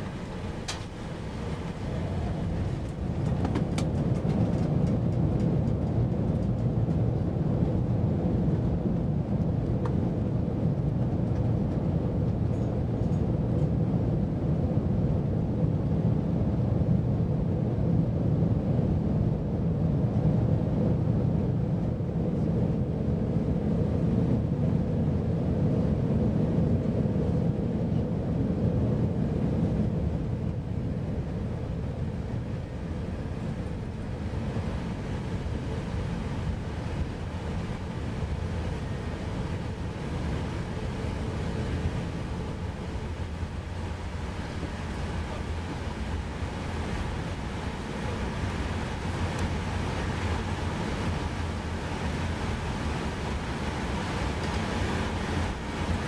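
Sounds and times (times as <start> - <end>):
aircraft cabin rumble and hum: 0.0 - 56.0.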